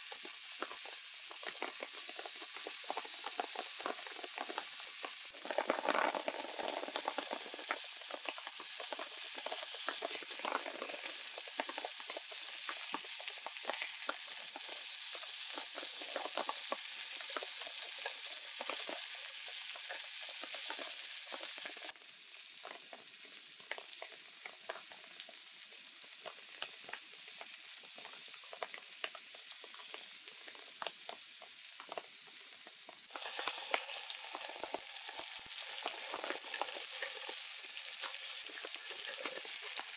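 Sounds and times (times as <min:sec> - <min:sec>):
meat patties sizzling in pan: 0:00.0 - 0:39.9.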